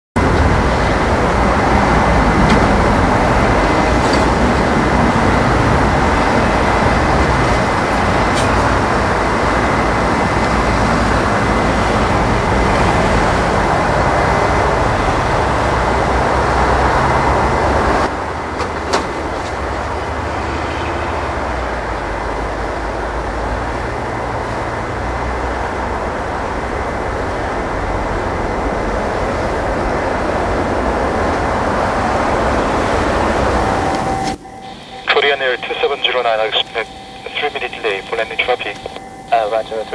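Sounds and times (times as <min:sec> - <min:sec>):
jet engines roaring: 0:00.2 - 0:39.9.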